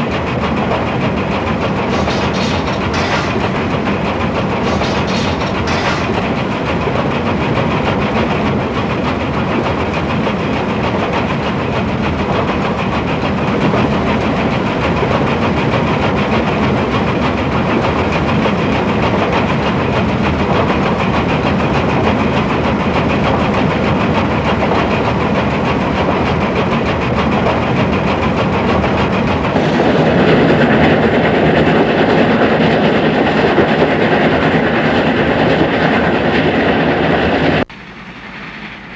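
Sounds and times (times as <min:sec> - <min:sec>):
rail clatter: 0:00.0 - 0:37.7
steam locomotive running: 0:00.0 - 0:38.9.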